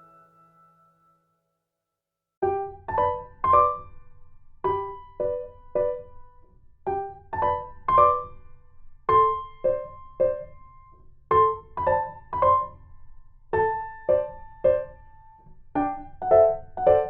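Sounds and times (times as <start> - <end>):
gentle piano music: 0.0 - 1.2, 2.4 - 17.0.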